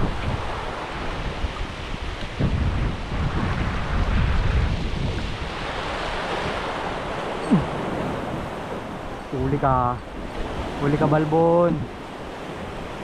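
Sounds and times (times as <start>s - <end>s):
hiss of wind and sea: 0.0s - 13.0s
wind buffeting microphone: 0.0s - 13.0s.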